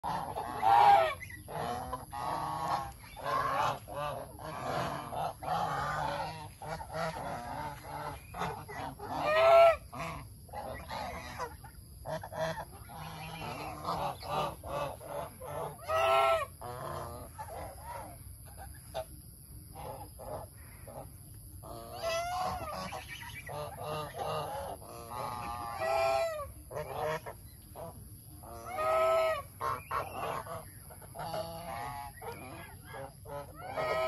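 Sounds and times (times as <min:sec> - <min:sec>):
geese honking: 0:00.0 - 0:19.1, 0:19.8 - 0:34.0.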